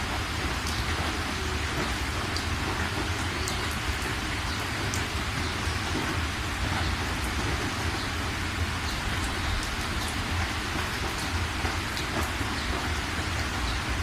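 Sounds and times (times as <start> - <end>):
rain hiss: 0.0 - 14.0
raindrops ticking: 0.0 - 14.0.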